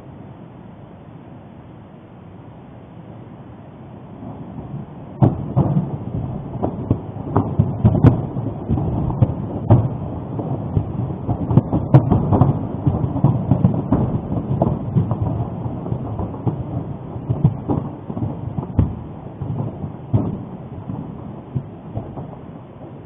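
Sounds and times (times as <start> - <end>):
volcano explosive booms: 4.2 - 23.0.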